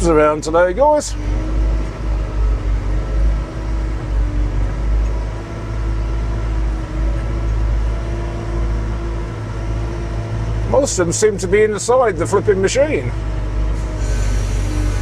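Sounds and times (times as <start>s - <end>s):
diesel engine rumbling with whine: 0.0s - 15.0s.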